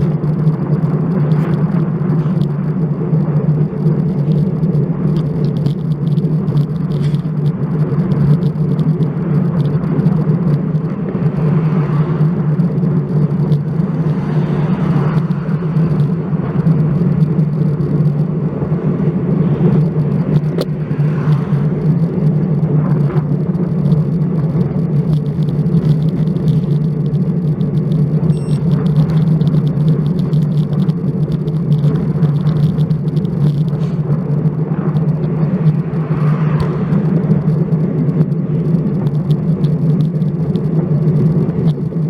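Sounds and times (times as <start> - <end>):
wind and road rumble: 0.0 - 42.0.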